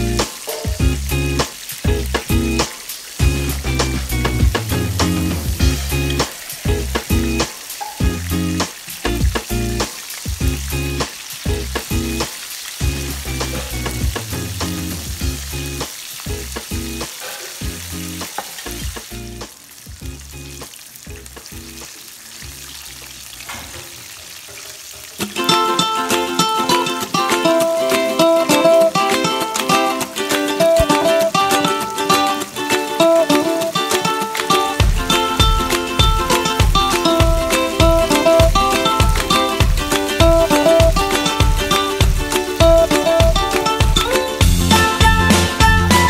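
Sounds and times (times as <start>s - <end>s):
chicken deep-frying in oil: 0.0s - 46.0s.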